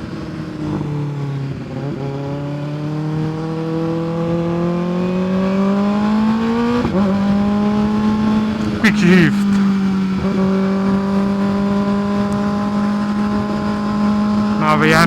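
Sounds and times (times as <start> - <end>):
motorcycle engine accelerating: 0.1 - 8.8, 9.5 - 15.0.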